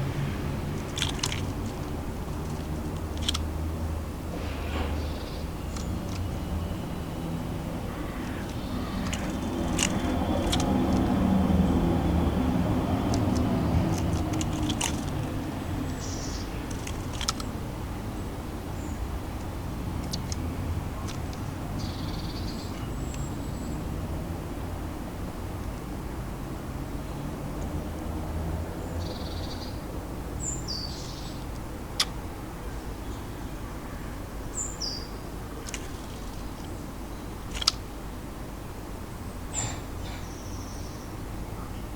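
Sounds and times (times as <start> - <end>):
road traffic rumble: 0.0 - 41.9
small birds ticking and chirping: 0.0 - 41.9
songbirds calling: 0.0 - 41.9.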